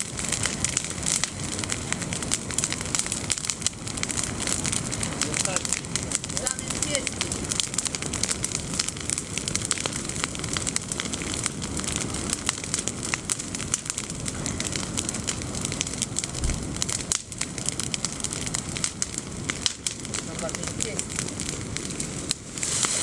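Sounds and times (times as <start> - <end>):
bonfire burning: 0.0 - 23.0
fire crackles and pops: 0.0 - 23.0.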